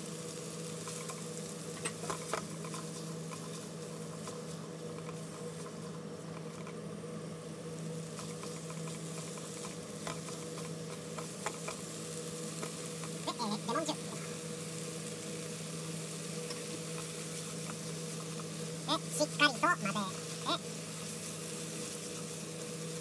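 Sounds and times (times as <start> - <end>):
food sizzling in a frying pan: 0.0 - 23.0
steady hum: 0.0 - 23.0.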